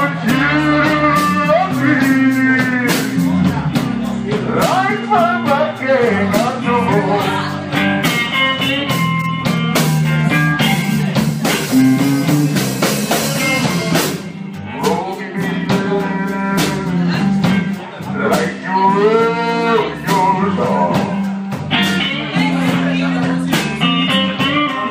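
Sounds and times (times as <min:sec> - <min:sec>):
drum kit: 0:00.0 - 0:24.9
electric guitar: 0:00.0 - 0:24.9.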